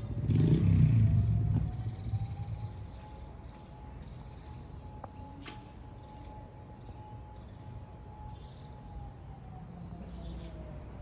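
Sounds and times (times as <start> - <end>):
faint siren rising: 0.0 - 11.0
vehicle engine rumbling: 0.0 - 11.0.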